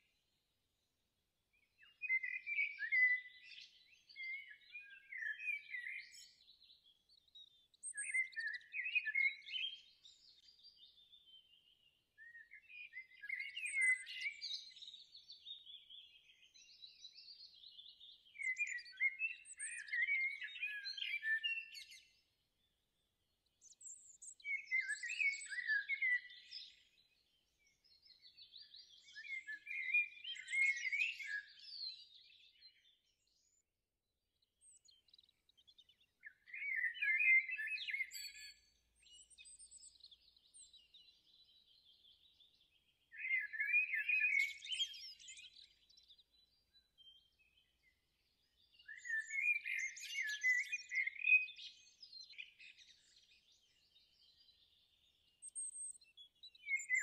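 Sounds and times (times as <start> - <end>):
songbird chirps and trills: 0.0 - 57.0.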